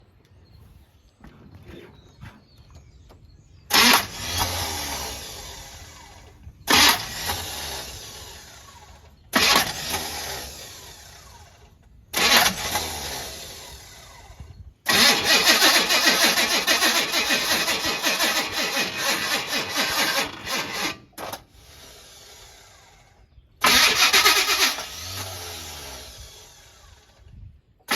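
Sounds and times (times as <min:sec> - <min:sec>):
car engine cranking: 0:02.8 - 0:27.9.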